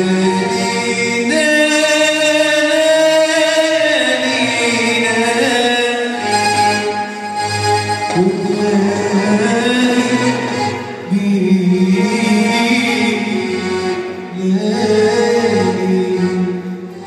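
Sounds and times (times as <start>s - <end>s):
keyboard: 0.0s - 17.0s
man singing long notes: 0.0s - 17.0s.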